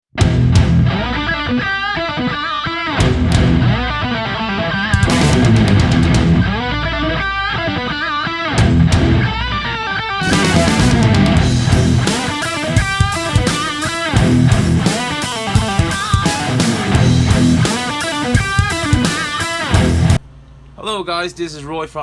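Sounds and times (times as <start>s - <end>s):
bass guitar: 0.1s - 20.2s
drums: 0.1s - 20.2s
electric guitar: 0.1s - 20.2s.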